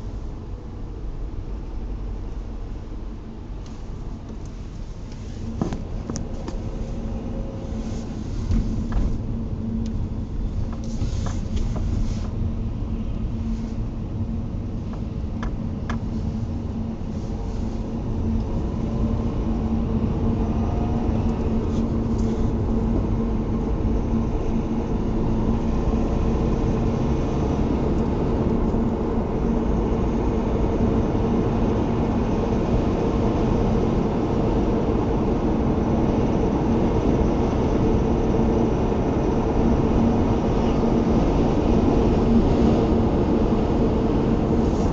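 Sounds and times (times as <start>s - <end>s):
car engine humming: 0.0s - 35.8s, 37.6s - 44.9s.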